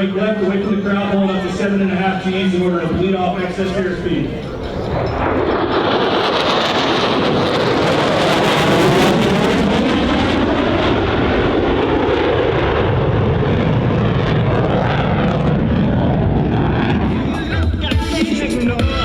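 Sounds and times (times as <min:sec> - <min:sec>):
jet high-speed pass: 0:00.0 - 0:19.0.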